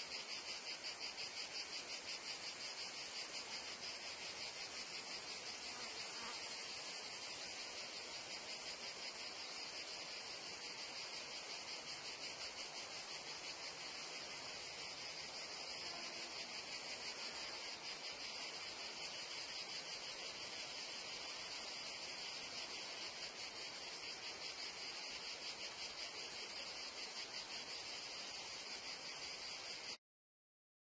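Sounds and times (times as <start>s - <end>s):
cicadas and crickets shrilling: 0.0s - 30.0s
insects trilling: 0.0s - 30.0s.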